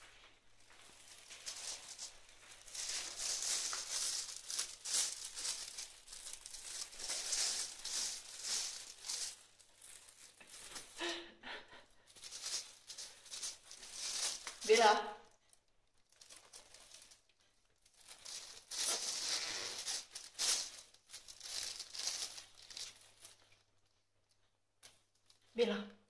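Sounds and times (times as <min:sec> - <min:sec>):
plastic bag crinkling: 0:00.1 - 0:11.2, 0:12.1 - 0:25.5.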